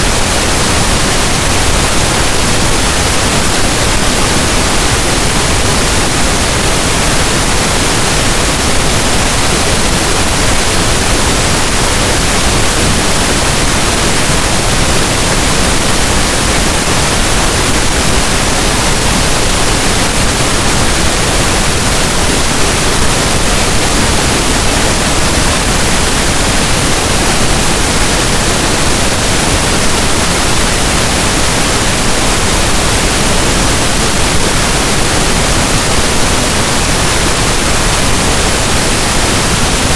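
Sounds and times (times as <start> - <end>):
loud pink noise hiss: 0.0 - 39.9.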